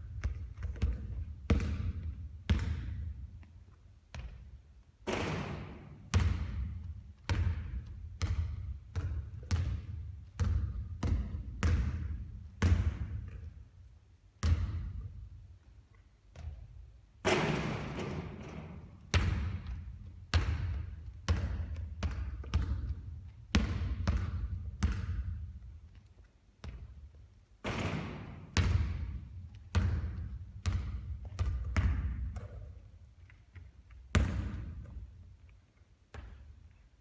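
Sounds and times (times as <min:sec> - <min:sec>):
basketballs bouncing in a hall: 0:00.0 - 0:37.0.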